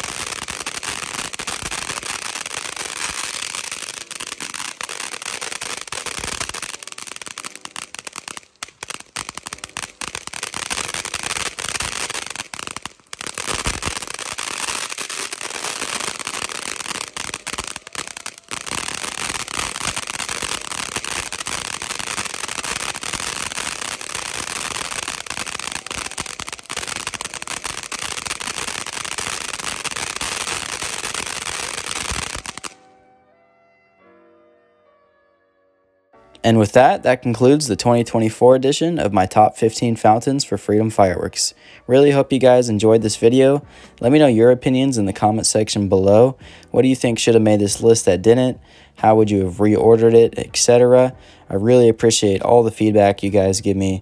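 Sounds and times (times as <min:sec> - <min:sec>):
fountain firework crackling: 0:00.0 - 0:32.8, 0:36.4 - 0:54.0.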